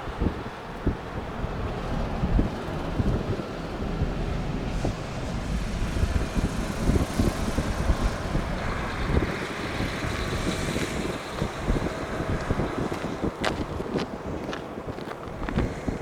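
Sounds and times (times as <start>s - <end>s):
wind buffeting microphone: 0.0s - 16.0s
jet engine roar: 0.3s - 13.4s.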